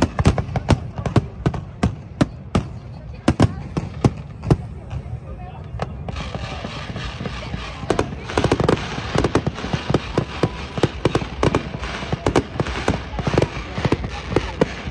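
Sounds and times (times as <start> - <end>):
fireworks bangs: 0.0 - 14.9
fireworks crackling hiss: 0.0 - 14.9.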